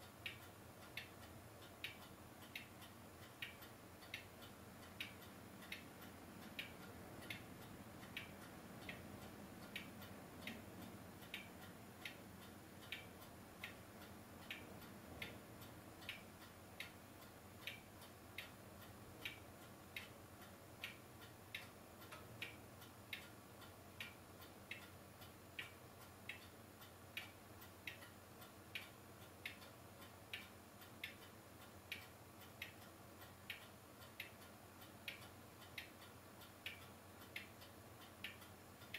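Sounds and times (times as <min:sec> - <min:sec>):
faint mechanical ticking: 0:00.0 - 0:38.9
low steady hiss and hum: 0:00.0 - 0:38.9.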